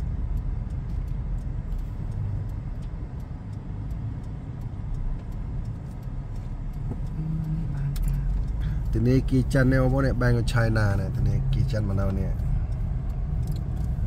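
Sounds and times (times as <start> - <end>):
road vehicle rumbling: 0.0 - 14.0.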